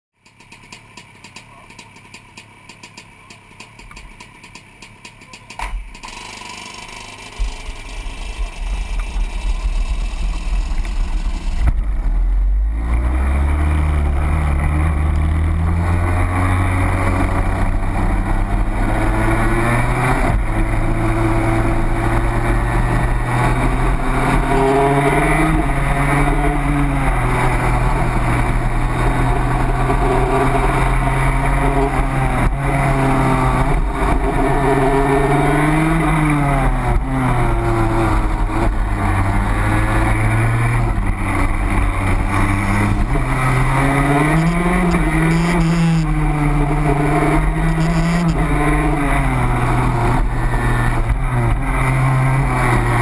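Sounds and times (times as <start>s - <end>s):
racing kart engine revving: 0.2s - 53.0s.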